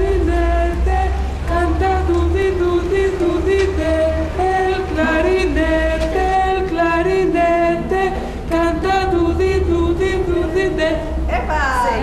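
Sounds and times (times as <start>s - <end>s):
group singing long held notes: 0.0s - 11.3s
steady low hum: 0.0s - 12.0s.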